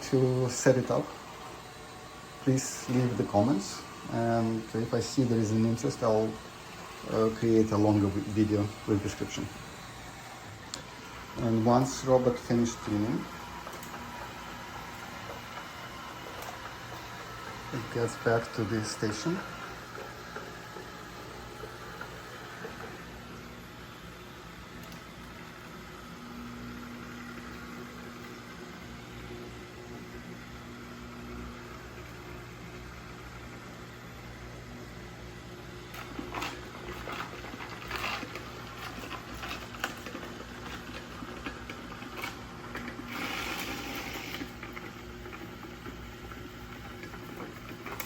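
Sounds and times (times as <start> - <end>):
robot vacuum motors running: 0.0 - 48.0.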